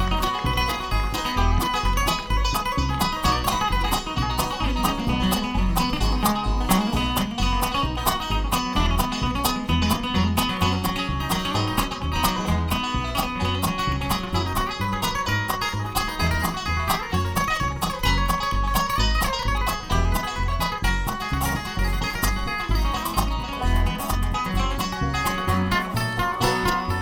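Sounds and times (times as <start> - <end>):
acoustic guitar: 0.0 - 27.0
banjo picking: 0.0 - 27.0
low bass pulse: 0.0 - 27.0.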